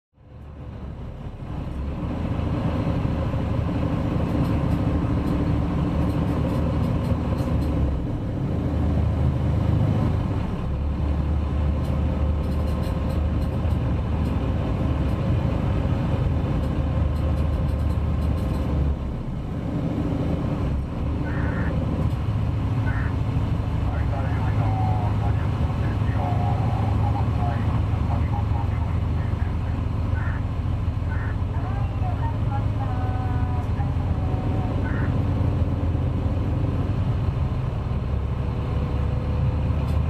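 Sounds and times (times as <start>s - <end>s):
ferry engines droning: 0.2s - 40.0s.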